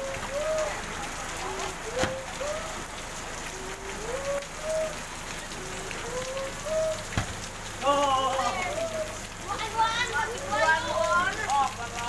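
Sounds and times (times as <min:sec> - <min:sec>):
heavy rain on asphalt: 0:00.0 - 0:12.0.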